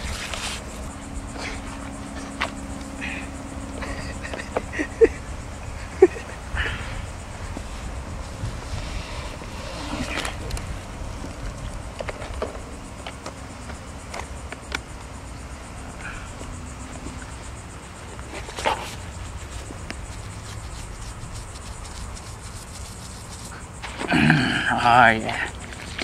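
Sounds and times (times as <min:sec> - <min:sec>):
faint high hum: 0:00.0 - 0:26.0
steady low rumble: 0:00.0 - 0:26.0.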